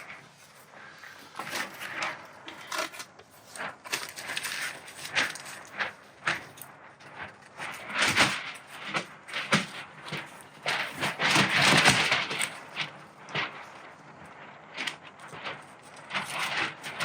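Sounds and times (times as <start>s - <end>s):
plastic sheet crinkling: 0.0s - 17.0s.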